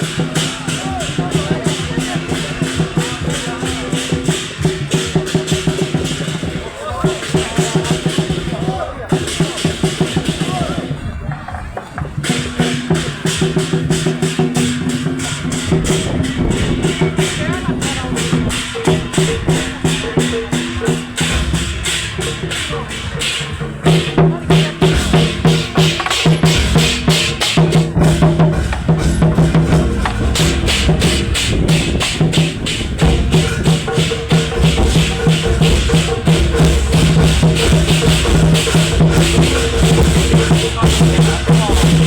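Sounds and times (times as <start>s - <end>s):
quick regular drum beat: 0.0s - 42.0s.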